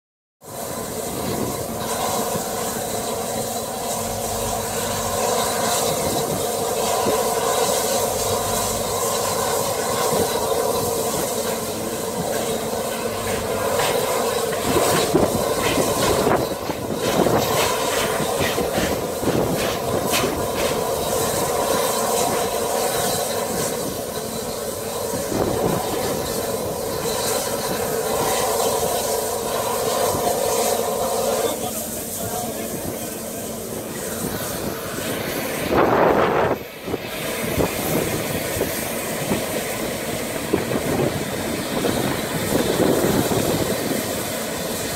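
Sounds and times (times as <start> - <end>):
steam locomotive hissing: 0.4 - 44.9.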